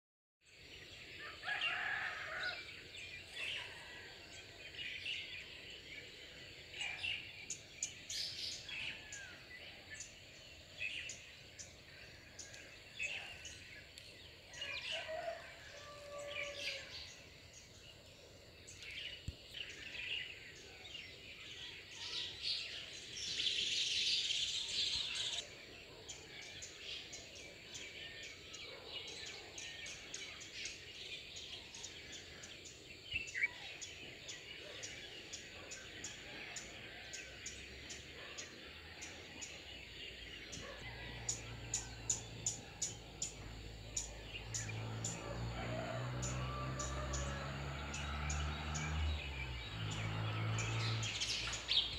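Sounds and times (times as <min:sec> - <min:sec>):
birds chirping and calling: 0:01.1 - 0:18.0, 0:18.7 - 0:51.9.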